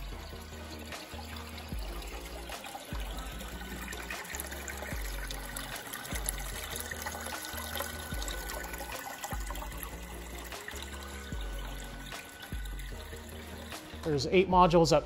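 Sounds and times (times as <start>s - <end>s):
coolant splashing into bucket: 0.0s - 14.1s
low bass background music: 0.0s - 15.0s.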